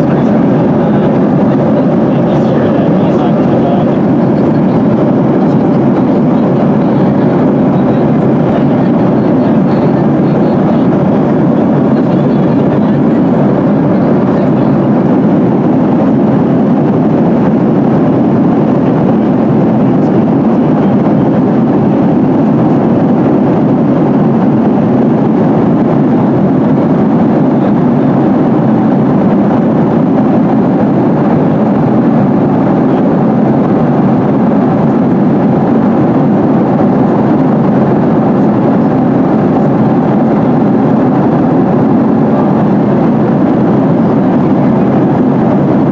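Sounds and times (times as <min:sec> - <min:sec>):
airplane cabin engine roar: 0:00.0 - 0:45.9.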